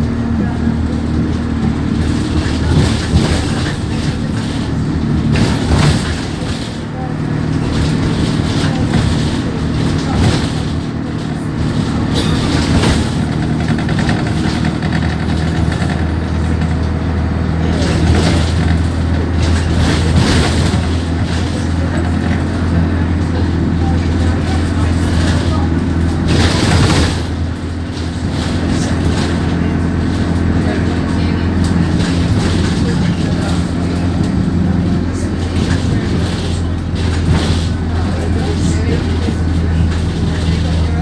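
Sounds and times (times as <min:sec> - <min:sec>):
bus engine hum: 0:00.0 - 0:41.0
rattles and knocks: 0:00.0 - 0:41.0.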